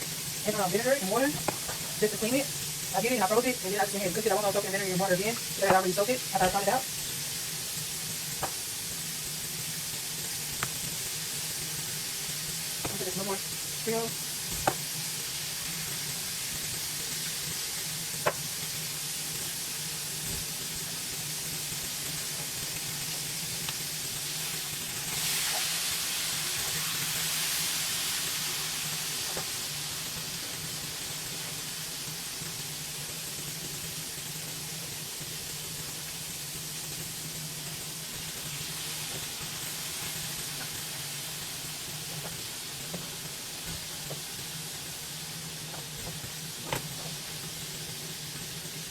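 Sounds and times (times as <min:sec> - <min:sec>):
meat sizzling in a pan: 0:00.0 - 0:48.9.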